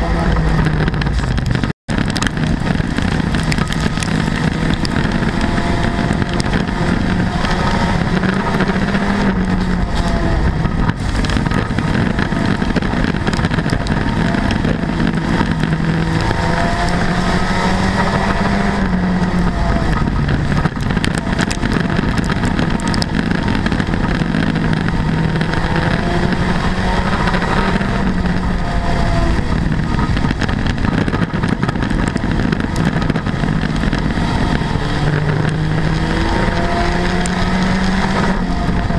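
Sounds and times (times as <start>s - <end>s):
car rattling: 0.0s - 38.9s
race car engine: 0.0s - 38.9s.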